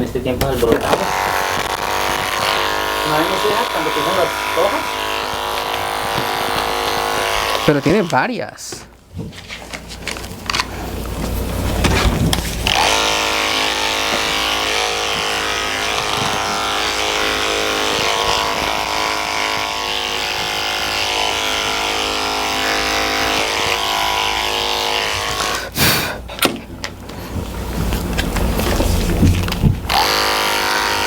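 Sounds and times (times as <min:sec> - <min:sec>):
electric clippers humming: 0:00.4 - 0:08.3, 0:11.4 - 0:26.6, 0:27.6 - 0:31.0.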